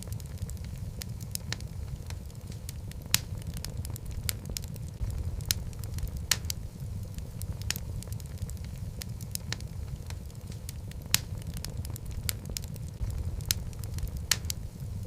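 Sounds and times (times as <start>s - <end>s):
burning wood crackling and popping: 0.0s - 15.0s
fireplace flames rumbling: 0.0s - 15.0s.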